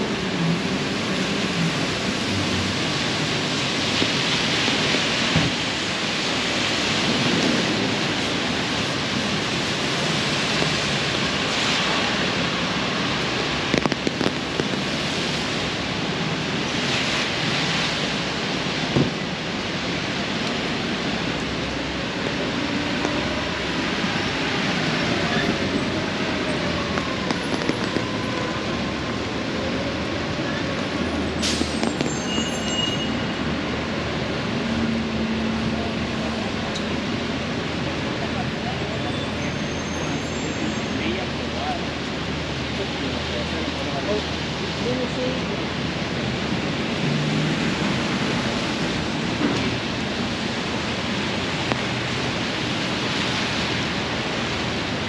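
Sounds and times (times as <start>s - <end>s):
heavy rain on umbrella: 0.0s - 32.5s, 41.8s - 55.0s.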